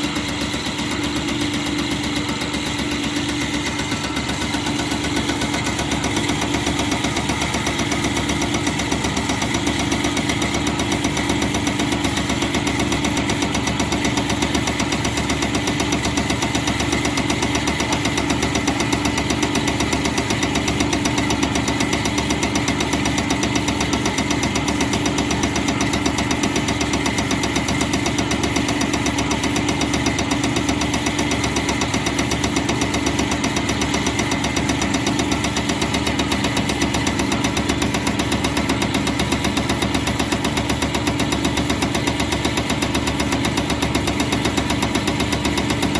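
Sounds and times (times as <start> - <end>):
diesel injector ticking: 0.0 - 45.9
motor and pump humming: 0.0 - 45.9.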